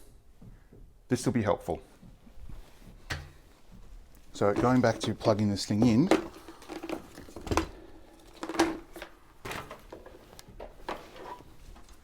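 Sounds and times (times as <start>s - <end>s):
rustling: 1.9s - 12.0s.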